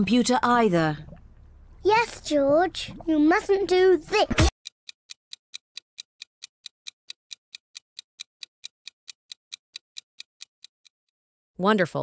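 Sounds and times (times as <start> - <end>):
clock ticking: 0.0 - 11.1.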